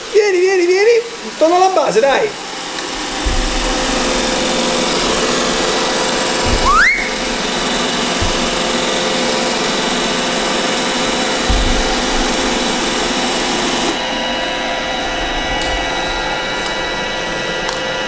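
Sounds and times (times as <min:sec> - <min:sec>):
robot vacuum motor whine: 0:00.6 - 0:18.0.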